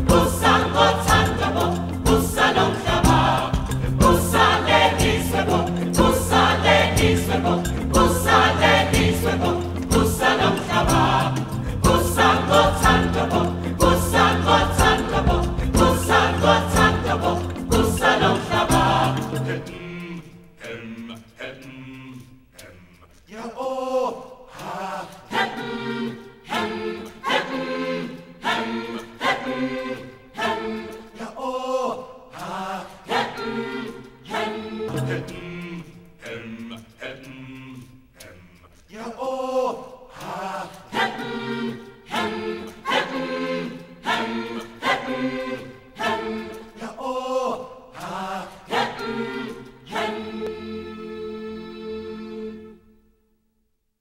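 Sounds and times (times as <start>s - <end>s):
choir singing chant-like song: 0.0s - 53.1s.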